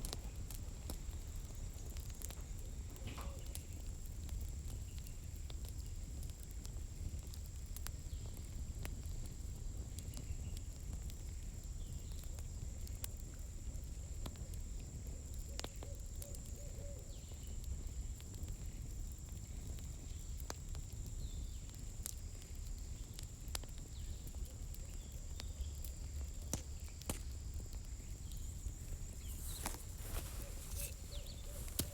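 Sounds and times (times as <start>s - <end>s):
campfire crackling: 0.0s - 31.9s.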